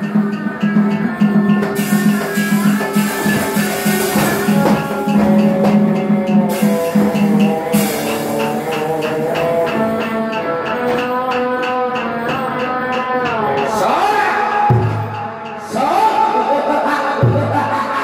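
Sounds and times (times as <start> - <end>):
drum beats: 0.0 - 18.0.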